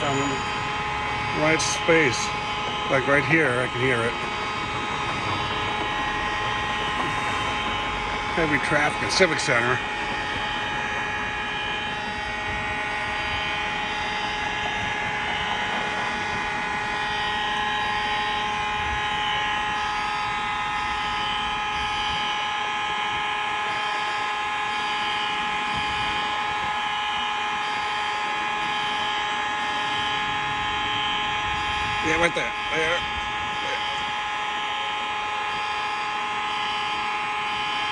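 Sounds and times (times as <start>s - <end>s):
fire alarm drone: 0.0s - 37.9s.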